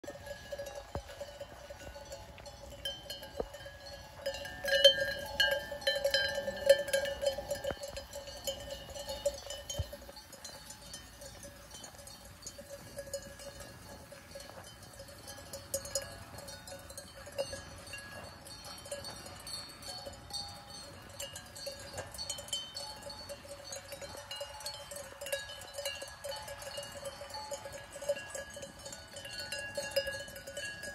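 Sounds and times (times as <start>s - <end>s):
sheep bells clanking: 0.0s - 30.9s.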